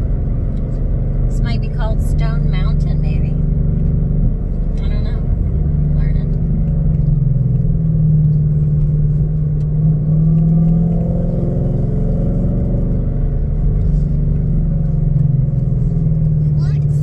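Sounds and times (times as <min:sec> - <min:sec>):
car engine cruising: 0:00.0 - 0:17.0
road noise: 0:00.0 - 0:17.0.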